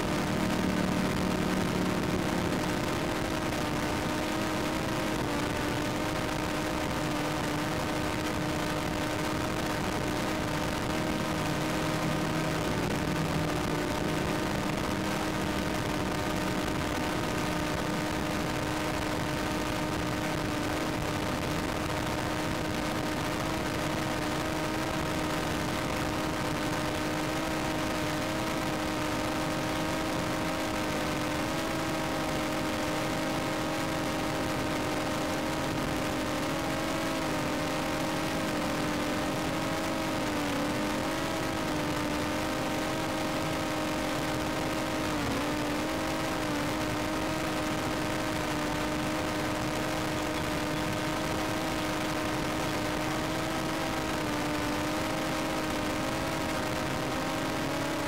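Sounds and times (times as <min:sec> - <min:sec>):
steady motor hum: 0:00.0 - 0:58.0.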